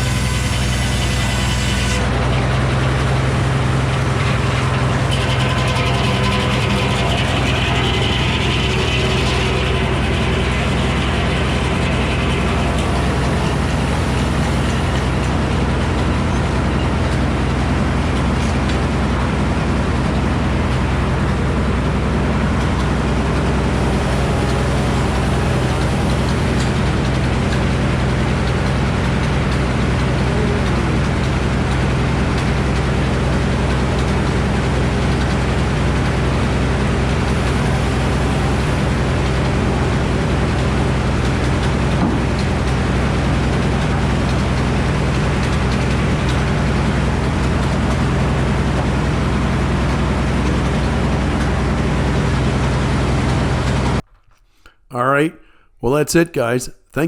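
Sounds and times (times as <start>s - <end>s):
sawmill engine droning: 0.0s - 54.0s.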